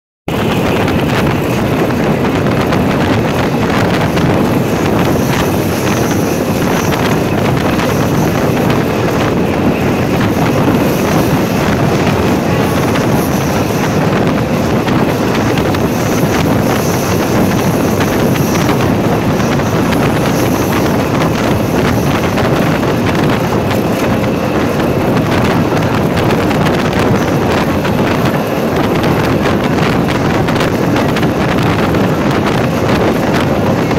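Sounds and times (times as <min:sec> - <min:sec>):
train running on rails: 0:00.3 - 0:33.9
wind buffeting microphone: 0:00.3 - 0:33.9.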